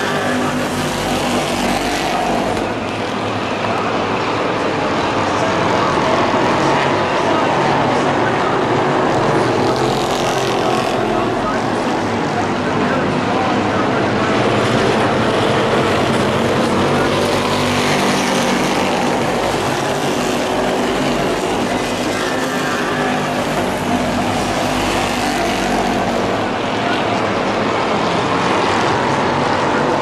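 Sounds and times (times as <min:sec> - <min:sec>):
racing truck engines: 0:00.0 - 0:30.0.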